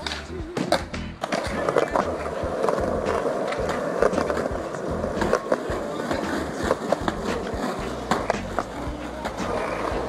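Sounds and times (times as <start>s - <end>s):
skateboard clacks: 0.0s - 10.0s
skateboard wheels rolling on concrete: 0.0s - 10.0s.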